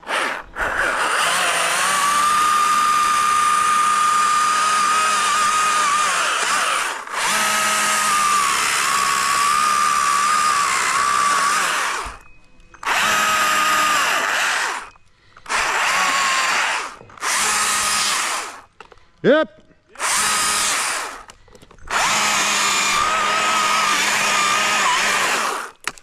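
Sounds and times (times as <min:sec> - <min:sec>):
chainsaw revving: 0:00.0 - 0:12.2, 0:12.8 - 0:14.9, 0:15.5 - 0:18.7, 0:20.0 - 0:21.3, 0:21.9 - 0:25.8.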